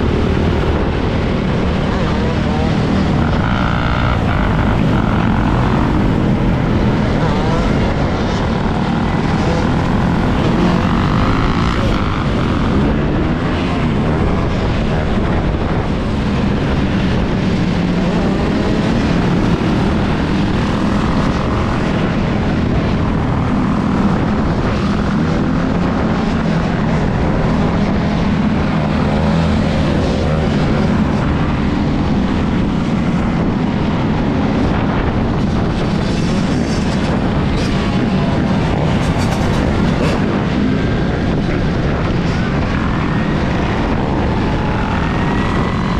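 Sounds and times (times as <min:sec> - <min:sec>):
electric dirt bike riding: 0:00.0 - 0:45.9
wind buffeting microphone: 0:00.0 - 0:45.9.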